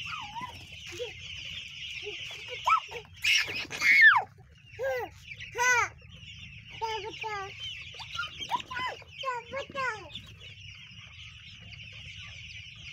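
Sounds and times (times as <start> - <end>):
toddler high vocal calls: 0.0 - 12.4
chicks peeping: 0.0 - 12.9.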